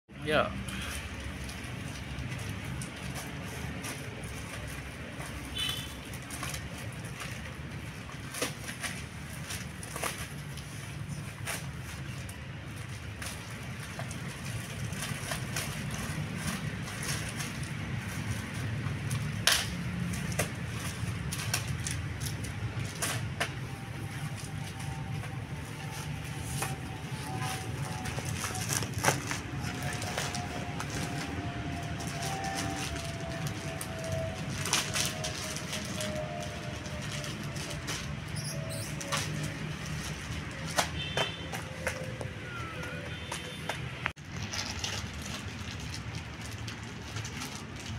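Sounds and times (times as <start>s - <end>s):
plastic bags crinkling: 0.6s - 47.9s.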